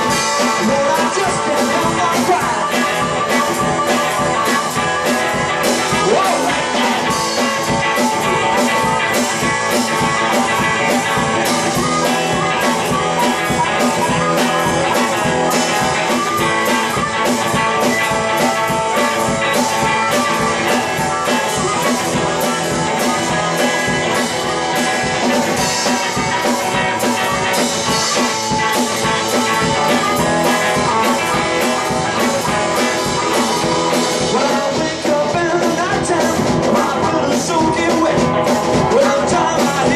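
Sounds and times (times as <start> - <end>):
harmonica: 0.0 - 37.3
drums keeping a steady beat: 0.0 - 39.9
electric guitar: 0.0 - 39.9.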